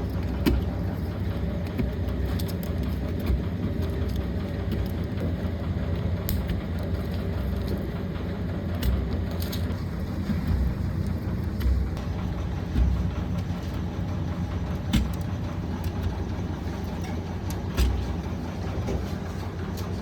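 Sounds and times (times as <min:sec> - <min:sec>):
machinery droning: 0:00.0 - 0:20.0.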